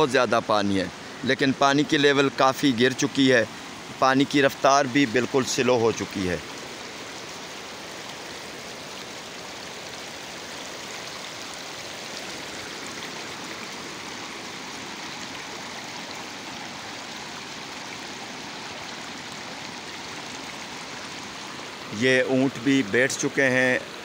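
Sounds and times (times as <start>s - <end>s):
floodwater flowing over road: 0.0s - 24.0s.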